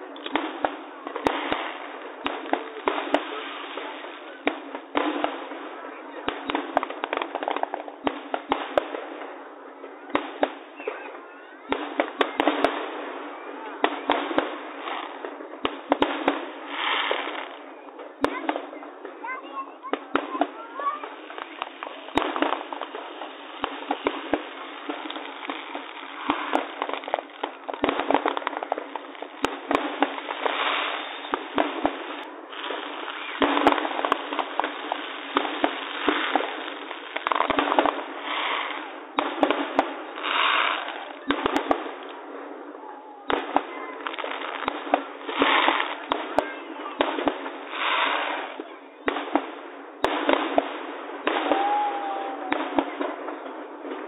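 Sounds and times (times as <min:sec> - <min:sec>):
fireworks bangs: 0:00.0 - 0:54.0
fireworks hissing crackle: 0:00.0 - 0:54.0.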